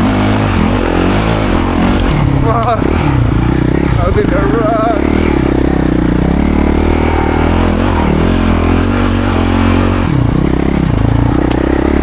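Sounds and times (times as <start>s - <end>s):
dirt bike engine under load: 0.0s - 12.0s.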